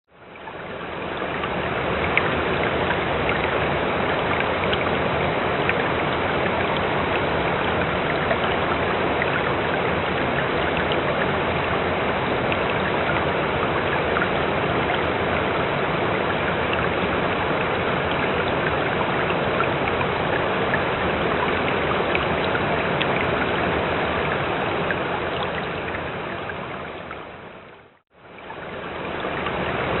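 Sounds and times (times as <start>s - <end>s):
running water splashing: 0.3s - 27.4s.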